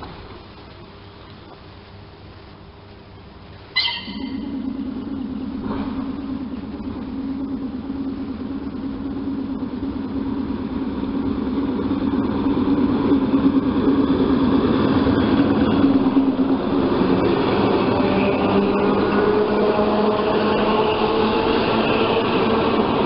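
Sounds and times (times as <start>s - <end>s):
electric train passing: 1.7s - 23.0s.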